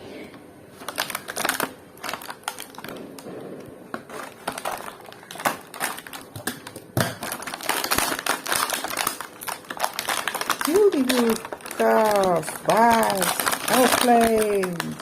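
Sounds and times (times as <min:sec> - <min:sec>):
plastic packaging crinkling: 0:00.8 - 0:15.0.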